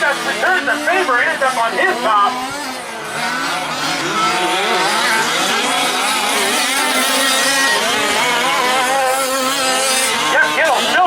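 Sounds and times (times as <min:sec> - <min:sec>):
small two-stroke engines racing: 0:00.0 - 0:11.0.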